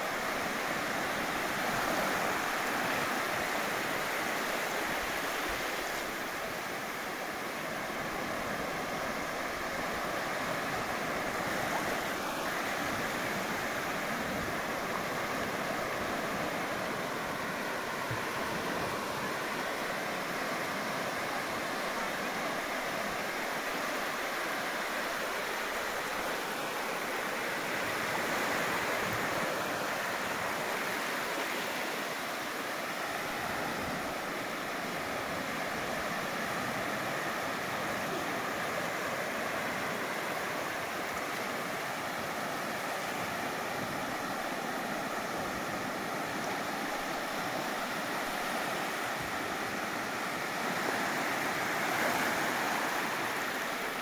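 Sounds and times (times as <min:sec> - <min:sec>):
waves washing onto sand: 0:00.0 - 0:54.0.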